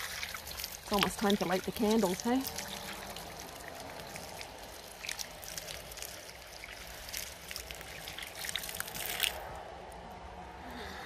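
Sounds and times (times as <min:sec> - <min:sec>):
water splashing from garden tap: 0:00.0 - 0:09.5.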